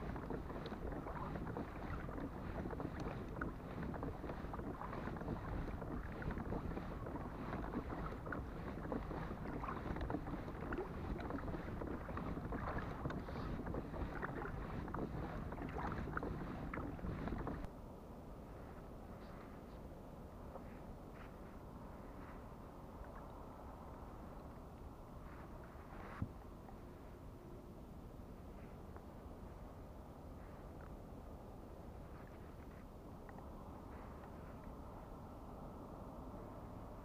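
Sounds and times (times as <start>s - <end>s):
water lapping along kayak hull: 0.0s - 17.7s, 20.3s - 27.4s, 28.2s - 37.0s.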